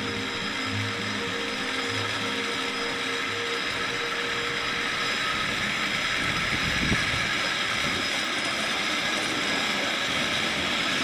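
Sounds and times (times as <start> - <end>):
mechanical hum: 0.0 - 11.0
railway car wheels clattering: 0.0 - 11.0.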